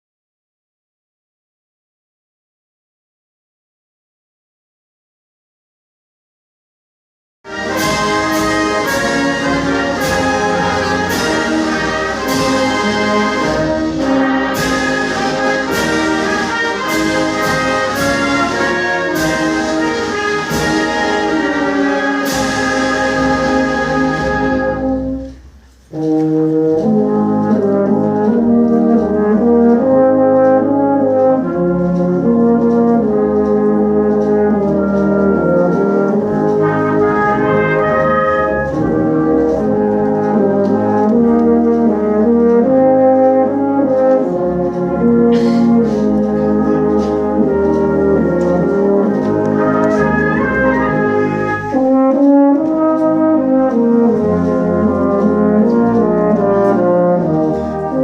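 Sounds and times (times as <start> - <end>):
brass band playing: 7.5 - 58.0.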